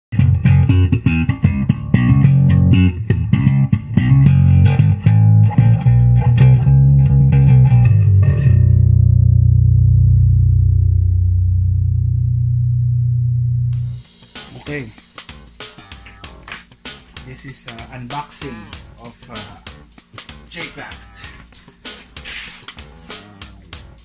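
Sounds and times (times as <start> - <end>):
electric bass plucked notes: 0.1 - 21.5, 22.8 - 24.0.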